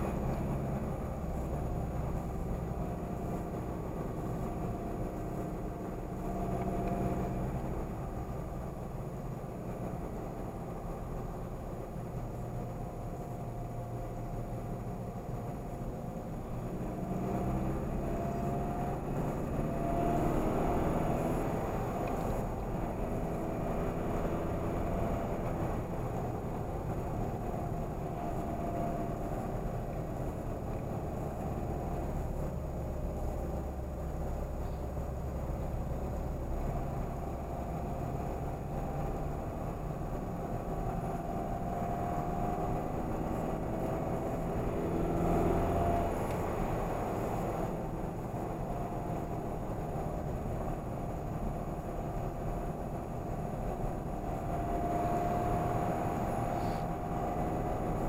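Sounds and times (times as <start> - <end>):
car engine and road noise inside cabin: 0.0 - 58.0.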